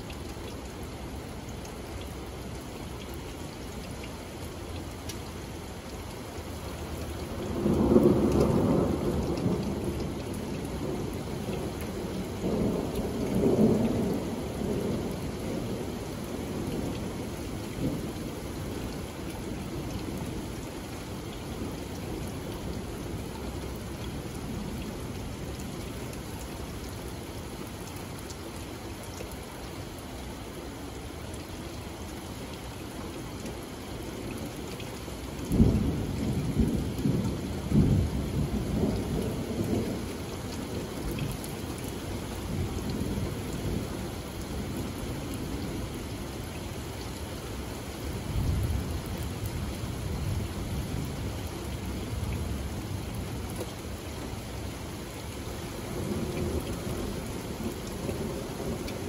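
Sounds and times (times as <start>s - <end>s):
rain on wooden deck: 0.0s - 59.0s.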